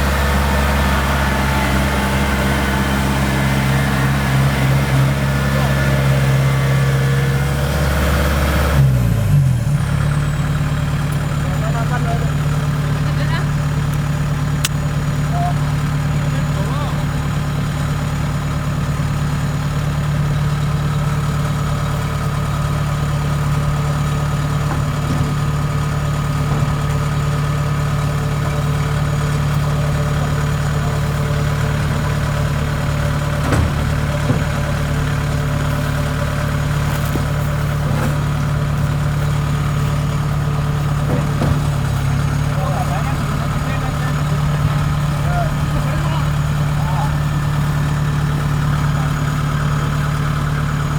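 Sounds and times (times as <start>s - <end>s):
diesel engine running steadily: 0.0s - 50.9s.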